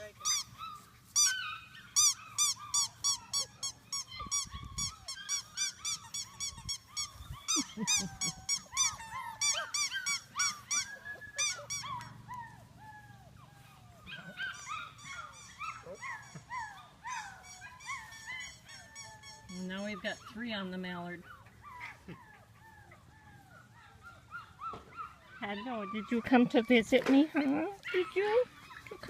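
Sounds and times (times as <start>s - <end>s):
puppies yelping and whining: 0.0s - 29.0s.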